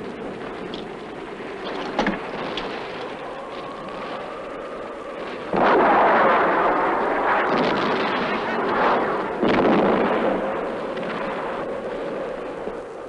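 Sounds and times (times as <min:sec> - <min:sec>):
background rumble: 0:00.0 - 0:13.0
sharp crack: 0:01.6 - 0:12.5.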